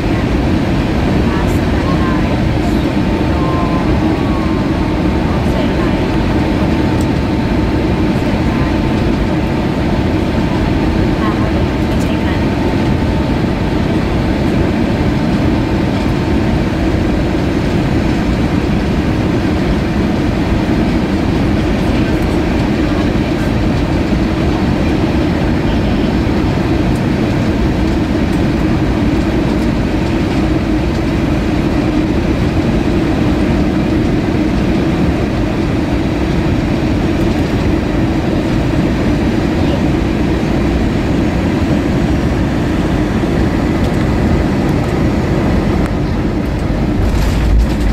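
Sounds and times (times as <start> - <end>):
airliner cabin rumble: 0.0 - 47.9.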